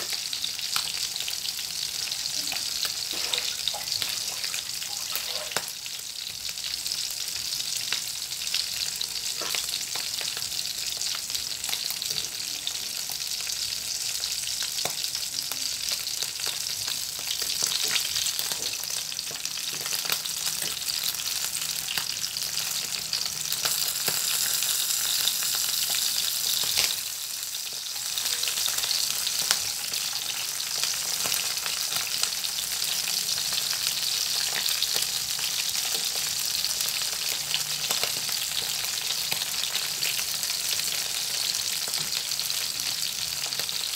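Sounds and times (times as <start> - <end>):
fish sizzling in hot oil: 0.0 - 43.9.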